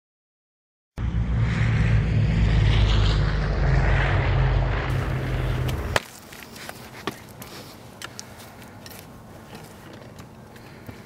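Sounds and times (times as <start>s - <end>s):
propeller aircraft engine drone: 1.0s - 11.0s.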